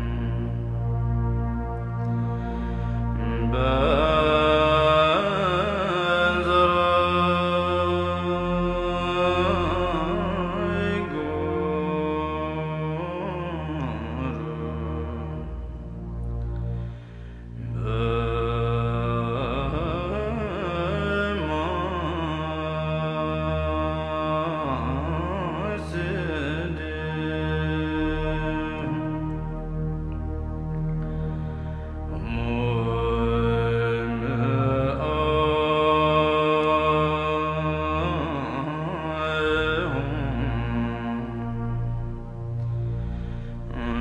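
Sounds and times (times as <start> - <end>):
person chanting a prayer: 0.0 - 44.0
steady low drone: 0.0 - 44.0.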